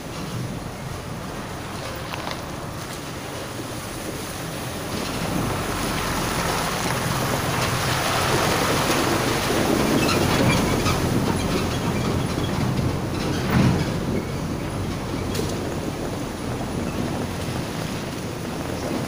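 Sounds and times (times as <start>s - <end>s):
truck engine rumble: 0.0s - 19.0s
tyres splashing through water: 0.0s - 19.0s.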